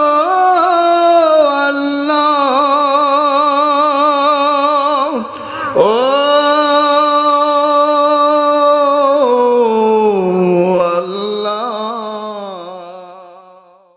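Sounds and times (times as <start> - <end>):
person singing a long note: 0.0 - 13.9.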